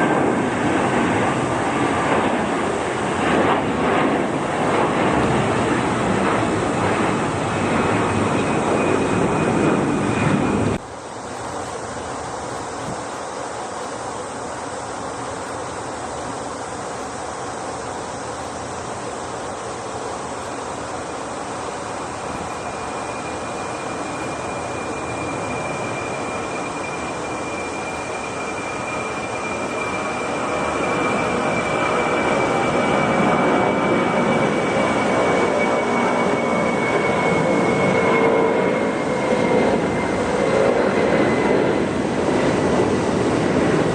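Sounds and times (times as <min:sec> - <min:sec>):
jet engines at takeoff: 0:00.0 - 0:43.9
high whine falling in pitch: 0:03.6 - 0:43.9.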